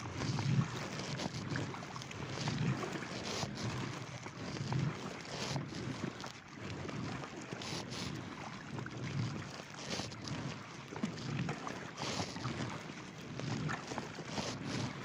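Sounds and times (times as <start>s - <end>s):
paddle splashing: 0.0s - 15.0s.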